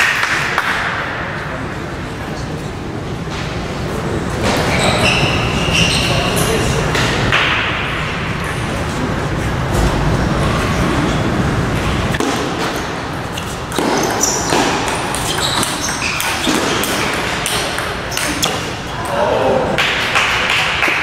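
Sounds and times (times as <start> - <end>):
background noise: 0.0 - 21.0.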